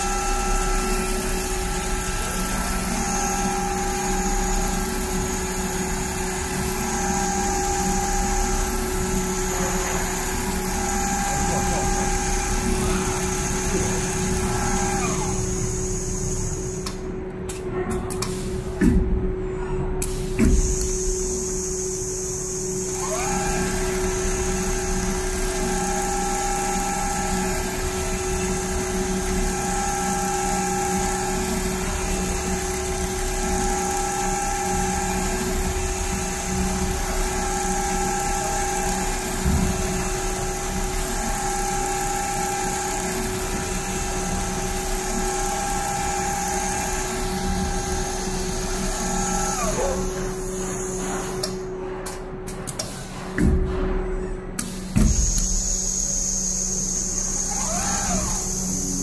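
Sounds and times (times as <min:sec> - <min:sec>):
quilting machine whine: 0:00.0 - 0:17.5, 0:18.4 - 0:53.2, 0:53.8 - 0:59.0.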